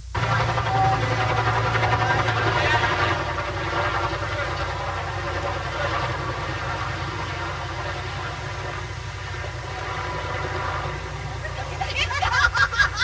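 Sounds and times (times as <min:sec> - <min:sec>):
heavy equipment engine drone: 0:00.0 - 0:13.0.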